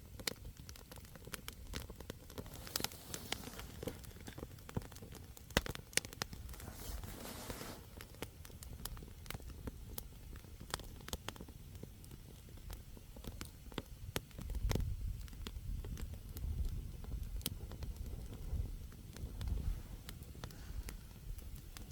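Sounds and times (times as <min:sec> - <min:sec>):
campfire logs crackling: 0:00.0 - 0:21.9.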